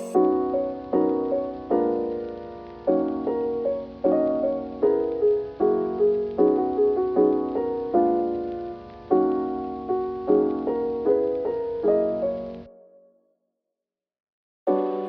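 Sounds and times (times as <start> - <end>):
gentle piano music: 0.0 - 13.1, 14.7 - 15.0.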